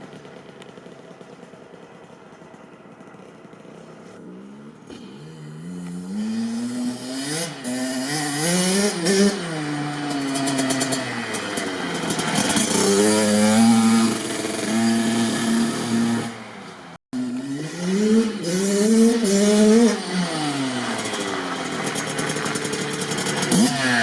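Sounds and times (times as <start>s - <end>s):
two-stroke engine revving: 0.0s - 24.0s.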